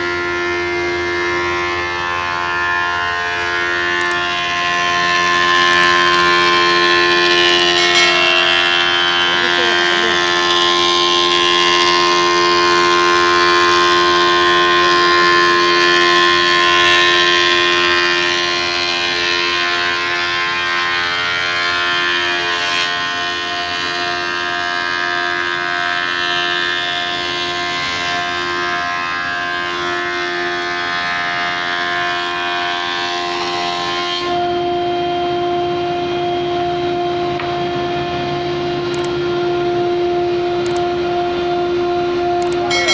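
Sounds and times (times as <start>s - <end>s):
planer whine: 0.0s - 42.9s.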